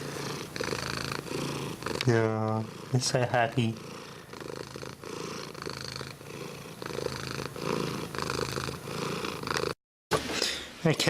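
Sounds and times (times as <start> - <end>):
cat purring: 0.0 - 9.8.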